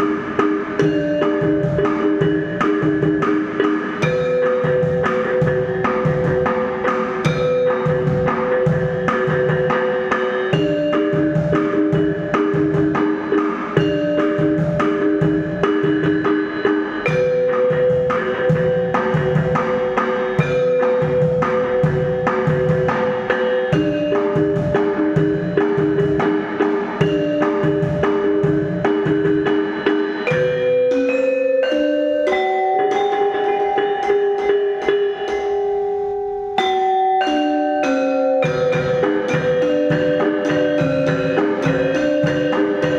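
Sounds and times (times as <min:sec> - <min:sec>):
held melodic notes: 0:00.0 - 0:42.9
wood-block-like percussion strikes: 0:00.0 - 0:42.9.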